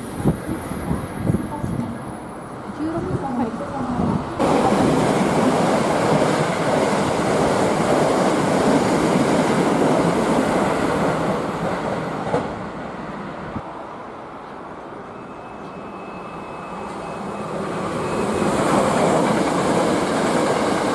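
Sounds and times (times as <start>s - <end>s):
train passing: 0.0s - 20.9s.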